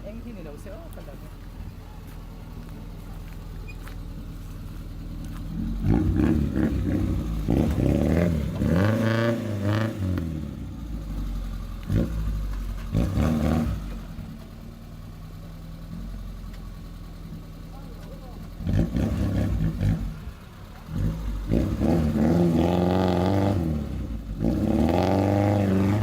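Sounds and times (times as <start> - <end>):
off-road vehicle engine idling and revving: 0.0 - 26.0.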